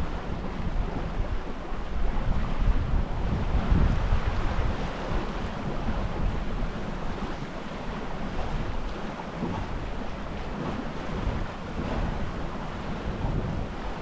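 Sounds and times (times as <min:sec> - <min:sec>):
choppy water along a hull: 0:00.0 - 0:14.0
wind buffeting microphone: 0:00.0 - 0:14.0.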